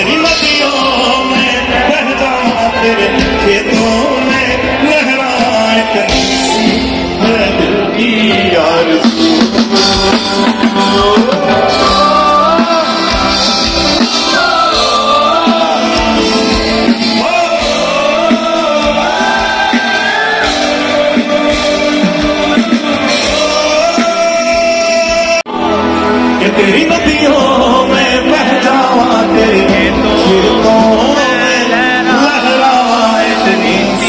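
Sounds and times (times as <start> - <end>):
live band playing: 0.0 - 34.0
person singing: 0.0 - 34.0.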